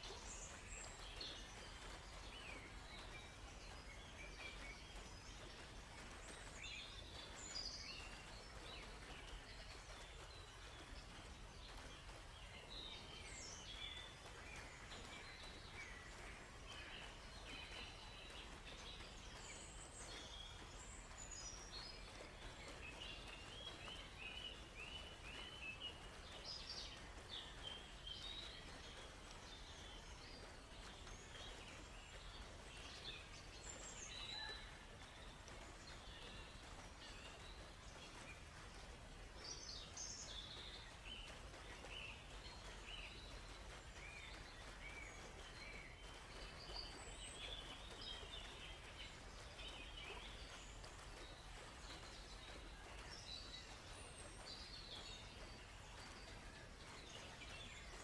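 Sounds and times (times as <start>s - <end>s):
soft steady hiss: 0.0s - 58.0s
songbirds chirping: 0.0s - 58.0s.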